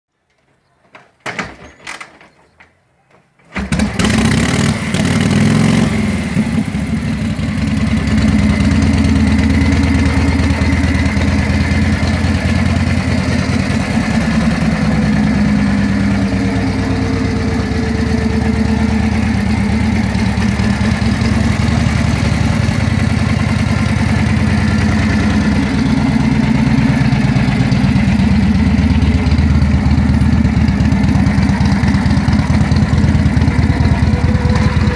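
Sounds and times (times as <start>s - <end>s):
motorcycle engine running: 3.6s - 34.9s.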